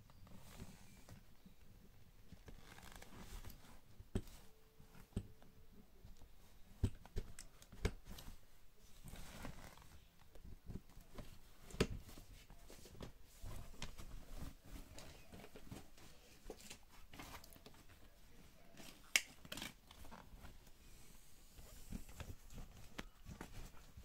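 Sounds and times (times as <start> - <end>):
fabric rustling: 0.2 - 5.4, 6.0 - 24.0.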